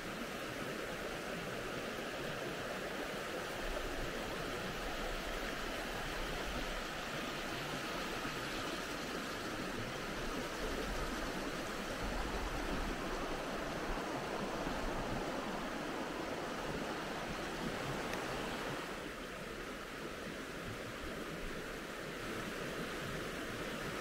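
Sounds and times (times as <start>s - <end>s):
mountain stream flowing: 0.0s - 24.0s.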